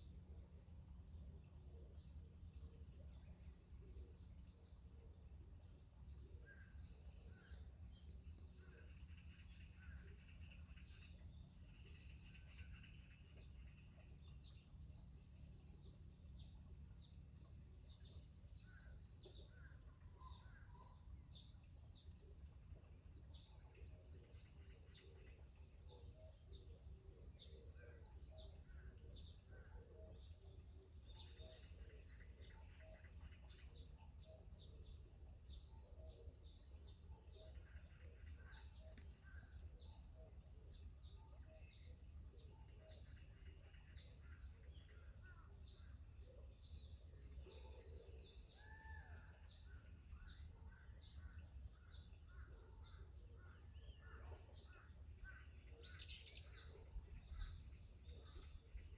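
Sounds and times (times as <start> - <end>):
low steady hum: 0.0 - 58.9
small birds chirping: 0.0 - 58.9.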